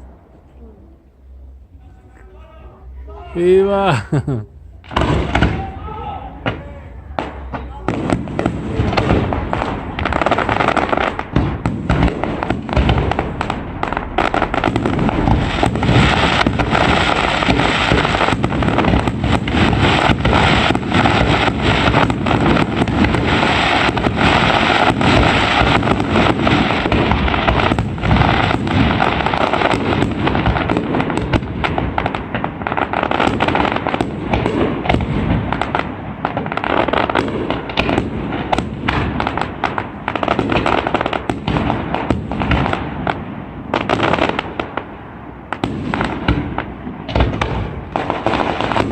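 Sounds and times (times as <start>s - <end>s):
fireworks crackling: 0.0s - 48.9s
fireworks bangs and cracks: 3.6s - 48.9s.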